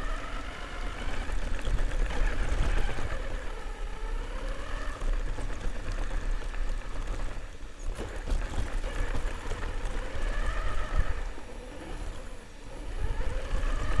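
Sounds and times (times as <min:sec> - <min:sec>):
electric motor whining: 0:00.0 - 0:14.0
rumble of wheels on gravel: 0:00.0 - 0:14.0.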